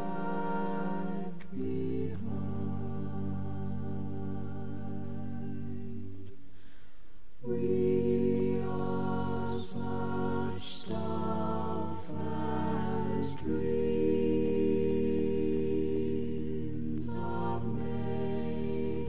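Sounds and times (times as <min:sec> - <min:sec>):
a cappella vocal ensemble singing: 0:00.0 - 0:06.8, 0:07.4 - 0:19.0.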